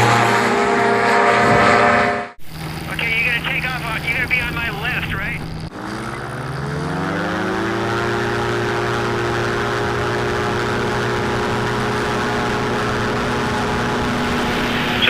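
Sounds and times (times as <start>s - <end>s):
ultralight engine and propeller: 2.4s - 15.0s.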